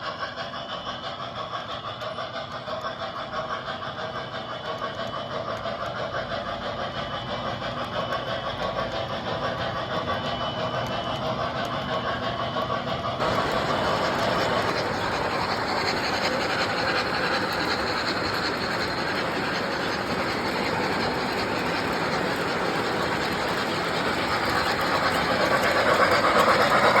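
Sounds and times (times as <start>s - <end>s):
model train wheels on rails: 0.0s - 27.0s.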